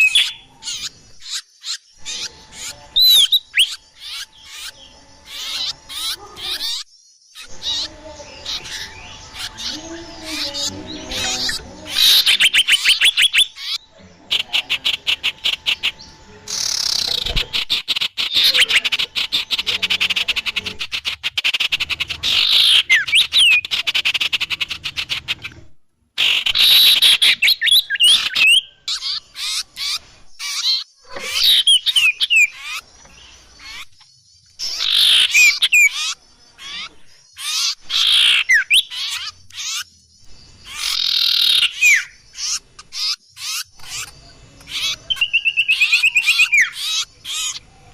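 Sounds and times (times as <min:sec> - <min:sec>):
songbird trills and chirps: 0:00.0 - 0:47.9.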